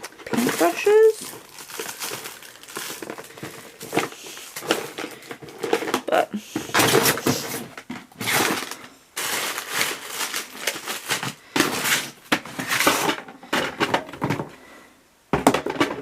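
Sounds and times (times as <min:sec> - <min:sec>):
objects rustling and knocking: 0:00.0 - 0:16.0.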